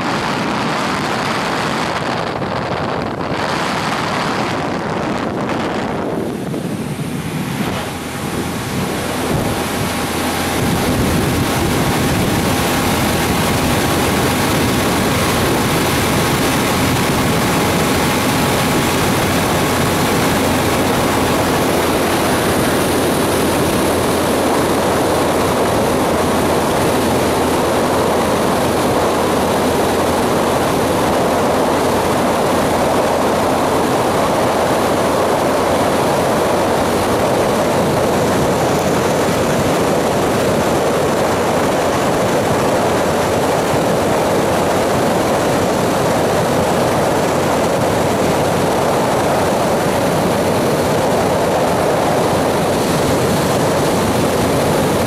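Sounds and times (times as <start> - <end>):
vehicle wind and engine roar: 0.0 - 55.0.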